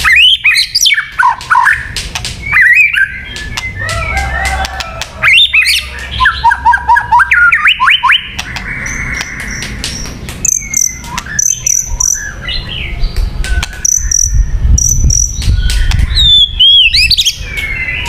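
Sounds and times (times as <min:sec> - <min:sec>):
bird singing whistled notes: 0:00.0 - 0:04.4, 0:05.2 - 0:18.0.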